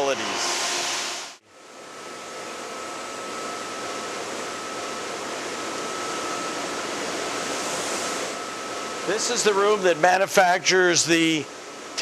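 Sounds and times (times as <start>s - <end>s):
machinery hiss and hum: 0.0s - 1.4s, 2.2s - 12.0s
thin steady whine: 0.0s - 12.0s.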